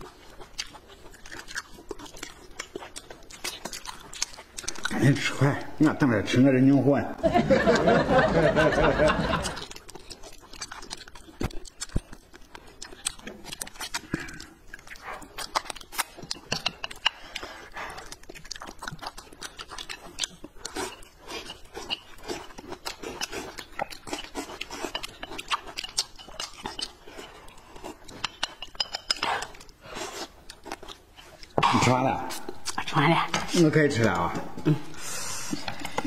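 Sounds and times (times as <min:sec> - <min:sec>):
wet chewing and slurping: 0:00.0 - 0:05.8, 0:09.2 - 0:36.0.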